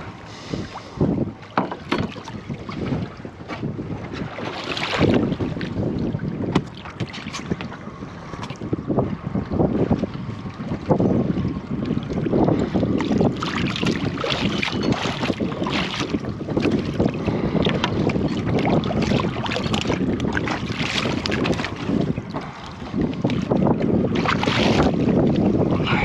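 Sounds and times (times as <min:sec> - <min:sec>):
water lapping against boat: 0:00.0 - 0:26.0
wind buffeting microphone: 0:00.0 - 0:26.0.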